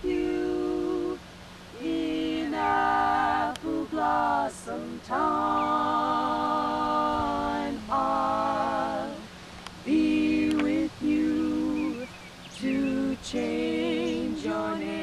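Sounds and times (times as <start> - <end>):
women singing in harmony: 0.0 - 15.0.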